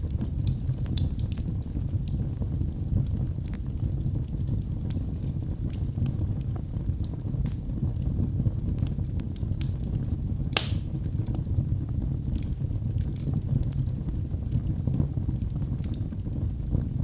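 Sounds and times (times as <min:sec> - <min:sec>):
wood snapping in fire: 0:00.0 - 0:11.6, 0:12.2 - 0:16.9
fire crackling and popping: 0:00.0 - 0:17.0
fire flames rumbling: 0:00.0 - 0:17.0.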